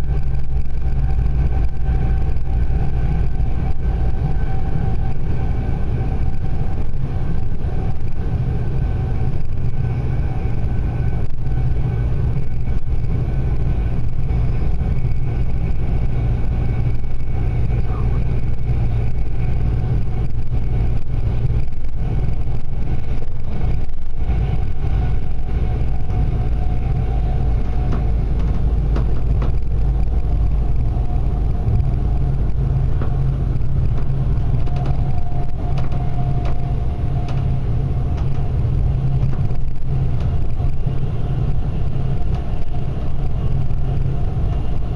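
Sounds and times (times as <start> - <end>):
faint steady whine: 0.0 - 44.9
train rumbling: 0.0 - 44.9.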